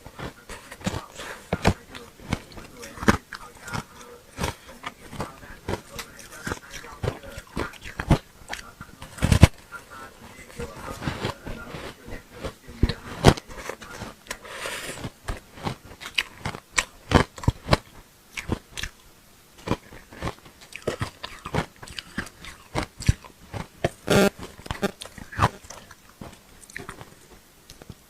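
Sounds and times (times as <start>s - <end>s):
ice being chewed crunching: 0.1s - 19.0s, 19.6s - 28.0s.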